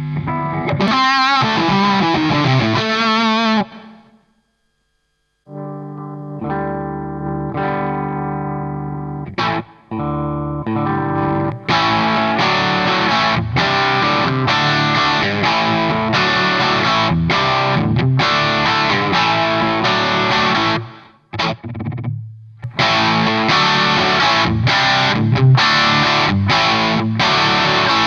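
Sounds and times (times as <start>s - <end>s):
distorted electric guitar: 0.0s - 4.2s, 5.5s - 28.0s.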